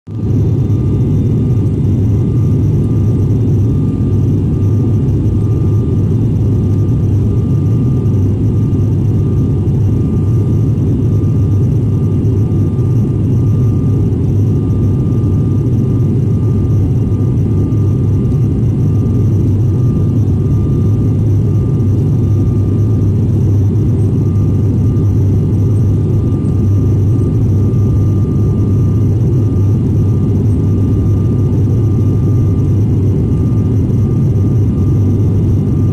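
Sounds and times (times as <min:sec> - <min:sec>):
faint thin whine: 0:00.1 - 0:35.9
jet engine and airflow rumble: 0:00.1 - 0:35.9.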